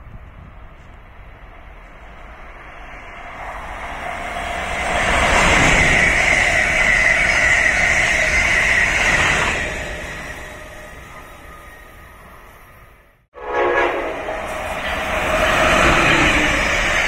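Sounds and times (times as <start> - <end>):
high whine of train: 0.0 - 17.0
high-speed train passing: 0.0 - 17.0.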